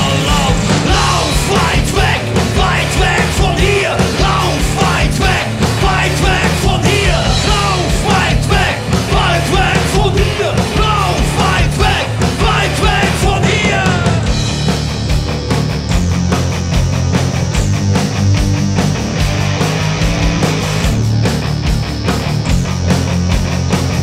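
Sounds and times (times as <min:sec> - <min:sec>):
bass guitar: 0:00.0 - 0:24.0
drums: 0:00.0 - 0:24.0
electric guitar: 0:00.0 - 0:24.0.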